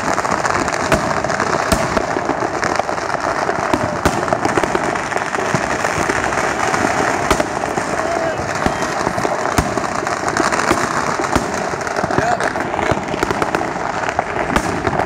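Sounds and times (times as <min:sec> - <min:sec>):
firecrackers crackling: 0:00.0 - 0:15.0
fireworks bangs: 0:00.0 - 0:15.0.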